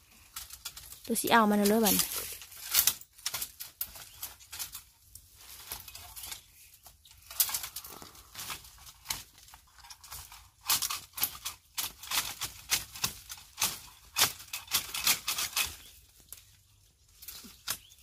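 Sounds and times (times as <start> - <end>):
bamboo stems crackling and snapping: 0.0 - 18.0.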